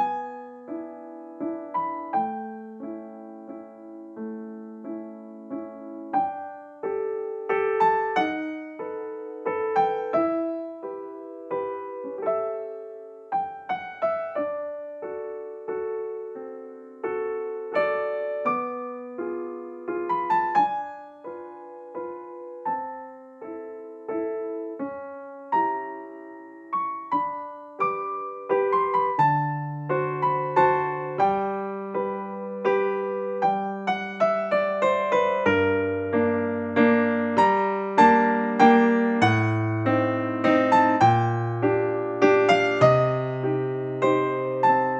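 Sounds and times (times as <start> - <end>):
soft piano music: 0.0 - 44.9.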